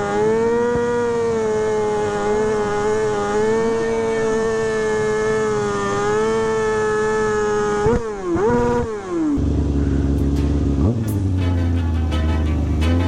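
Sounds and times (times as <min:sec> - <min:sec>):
faint engine revving: 0:00.0 - 0:13.0
motorcycle engine at high revs: 0:00.0 - 0:13.0.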